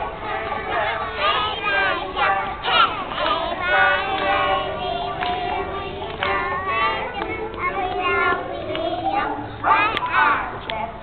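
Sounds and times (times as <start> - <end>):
child singing: 0.0 - 11.0
children's song music: 0.0 - 11.0.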